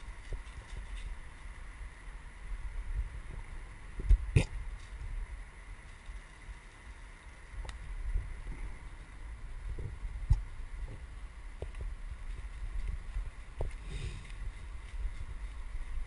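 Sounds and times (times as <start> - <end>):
wind and tyre rumble: 0.0 - 16.0.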